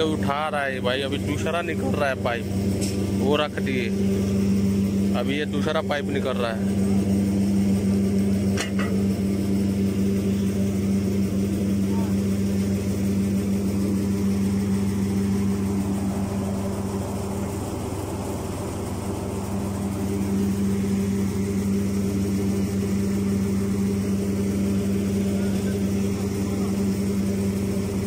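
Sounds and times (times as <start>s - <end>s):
diesel engine running steadily: 0.0s - 28.0s.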